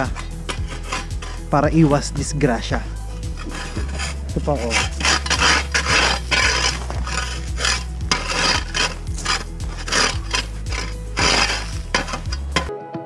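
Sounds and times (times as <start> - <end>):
ice scraper scraping ice: 0.0 - 1.5, 3.2 - 12.7.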